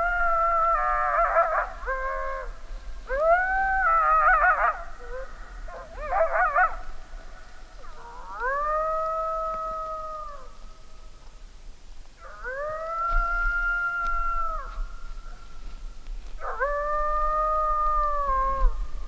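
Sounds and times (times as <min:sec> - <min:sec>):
coyote howling: 0:00.0 - 0:10.7, 0:12.2 - 0:19.0.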